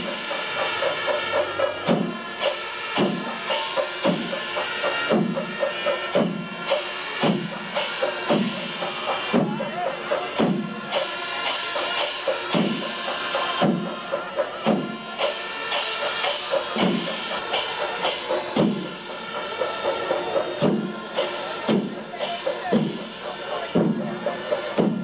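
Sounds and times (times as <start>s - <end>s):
cymbal-like clashes: 0.0s - 25.0s
deep drum strokes: 0.0s - 25.0s.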